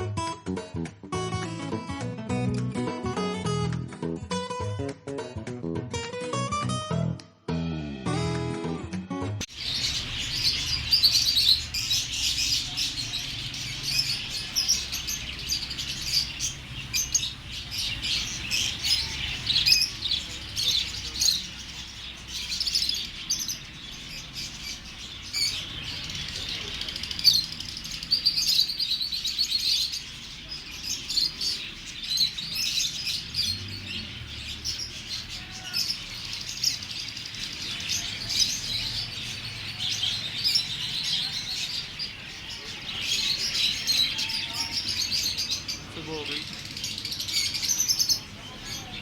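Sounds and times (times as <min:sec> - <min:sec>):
small birds chirping: 0:09.4 - 0:49.0.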